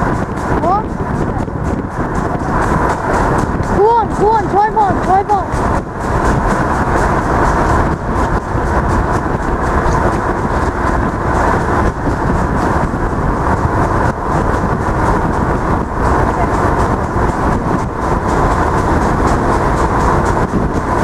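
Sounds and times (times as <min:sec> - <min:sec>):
vehicle road and wind noise: 0:00.0 - 0:21.0.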